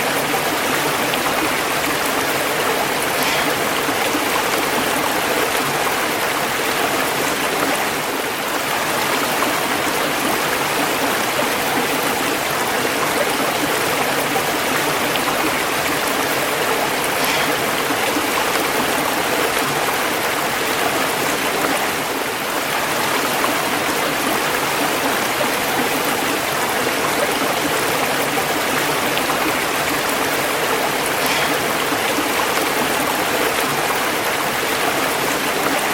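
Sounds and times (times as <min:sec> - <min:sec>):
water flowing: 0:00.0 - 0:35.9.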